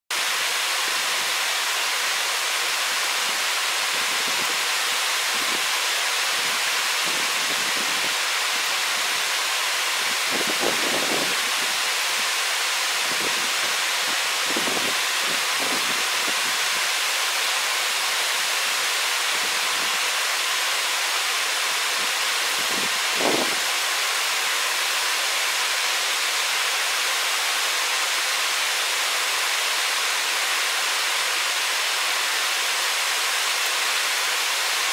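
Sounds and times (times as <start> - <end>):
steady rushing hiss: 0.1 - 34.9.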